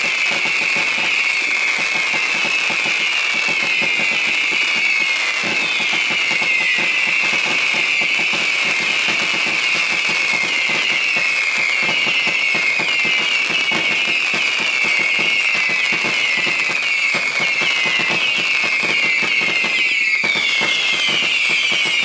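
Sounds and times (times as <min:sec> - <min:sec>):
firework popping and crackling: 0:00.0 - 0:22.0
firework whistles: 0:00.0 - 0:22.0.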